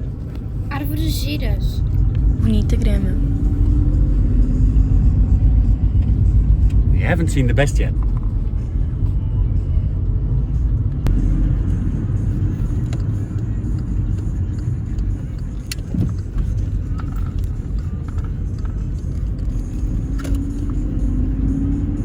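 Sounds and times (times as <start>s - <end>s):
car cabin engine and road rumble: 0.0s - 22.0s.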